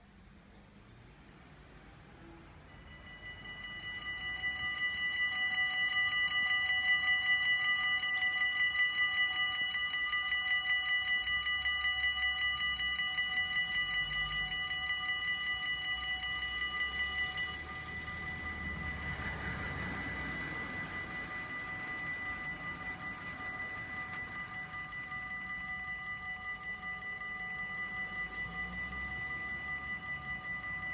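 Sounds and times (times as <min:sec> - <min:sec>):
level crossing warning bells ringing: 0:01.9 - 0:30.9.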